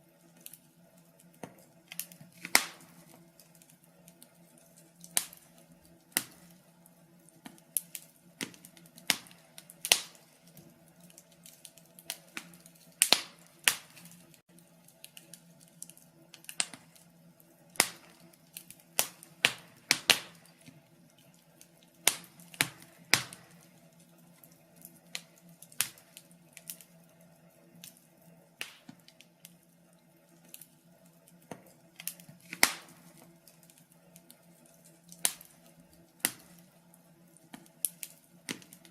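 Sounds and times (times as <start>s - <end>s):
faint steady hum: 0.0s - 38.9s
fire crackling in a fireplace: 0.0s - 38.9s.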